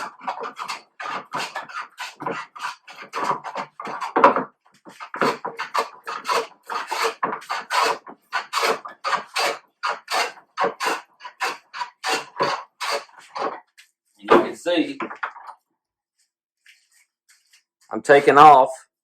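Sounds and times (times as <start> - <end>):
hand plane shaving wood: 0.0 - 15.5, 18.1 - 18.6.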